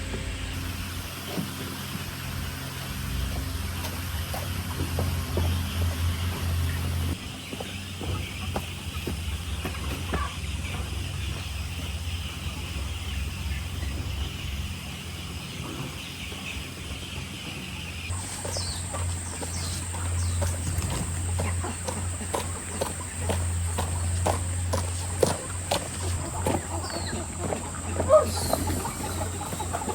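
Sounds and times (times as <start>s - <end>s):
steady low hum: 0.0s - 7.2s, 10.9s - 29.9s
chickens clucking: 0.0s - 29.9s.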